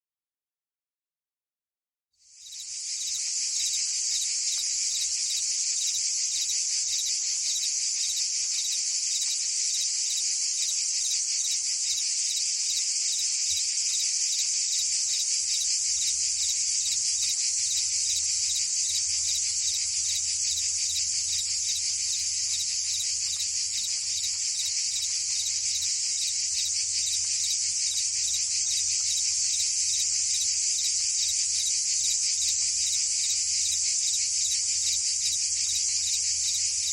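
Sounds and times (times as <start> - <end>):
cicadas and crickets buzzing: 2.2 - 36.9.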